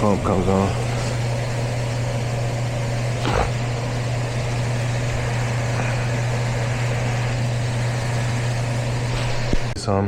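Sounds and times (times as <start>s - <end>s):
hvac equipment humming: 0.0s - 10.0s.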